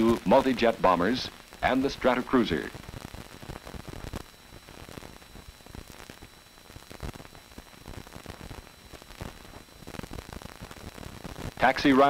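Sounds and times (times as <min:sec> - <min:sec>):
crackles: 0:00.0 - 0:12.0
film soundtrack hiss: 0:00.0 - 0:12.0.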